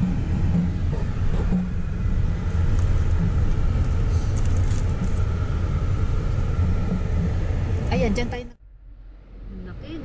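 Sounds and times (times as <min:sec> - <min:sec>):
car engine rumble: 0:00.0 - 0:10.0
road noise: 0:00.0 - 0:10.0.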